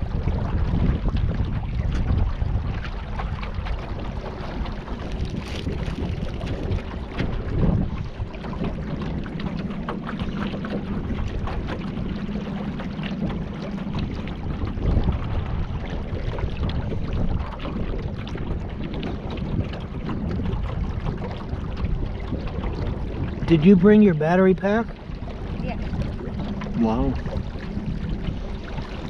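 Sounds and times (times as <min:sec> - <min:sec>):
water splashing around kayak: 0:00.0 - 0:29.0
wind buffeting microphone: 0:00.0 - 0:29.0.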